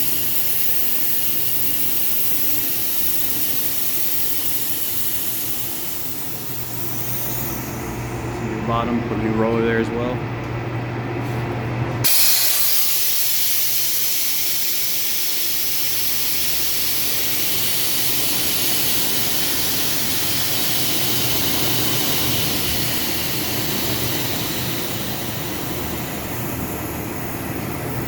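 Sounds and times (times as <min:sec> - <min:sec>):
high-pressure jet hissing: 0:00.0 - 0:08.1, 0:12.0 - 0:28.0.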